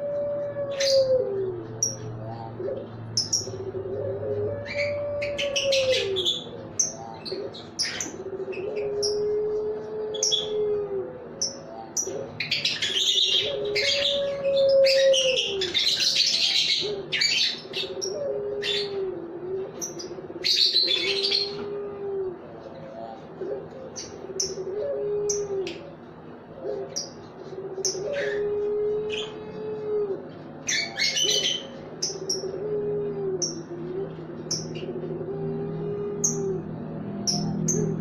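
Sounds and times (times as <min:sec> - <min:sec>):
doves cooing: 0:00.0 - 0:38.0
small birds chirping: 0:00.8 - 0:09.3, 0:10.2 - 0:10.7, 0:11.3 - 0:19.0, 0:19.7 - 0:21.6, 0:22.7 - 0:28.5, 0:30.5 - 0:32.6, 0:33.4 - 0:38.0.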